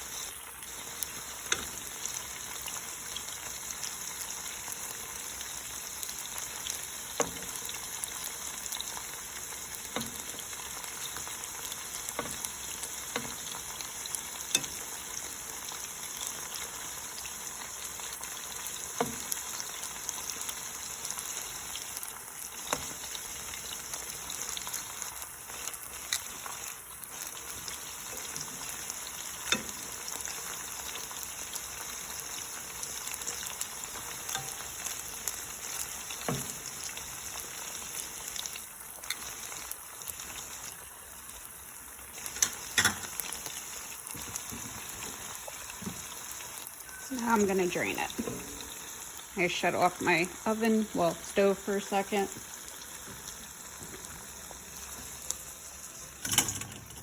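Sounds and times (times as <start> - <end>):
chicken sizzling in hot oil: 0.0 - 57.0.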